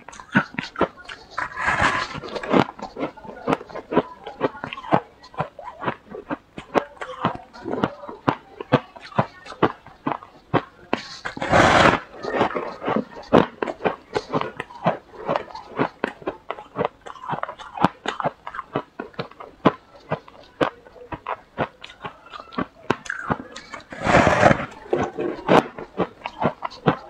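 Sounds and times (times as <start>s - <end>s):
chewing crunchy frost: 0.0s - 27.0s.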